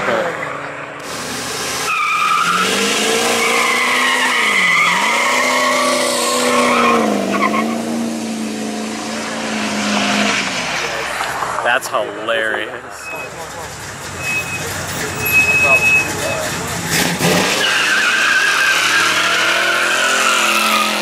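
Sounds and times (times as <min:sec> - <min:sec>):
truck engine revving high: 0:00.0 - 0:11.5, 0:12.8 - 0:21.0
tires squealing: 0:00.0 - 0:21.0.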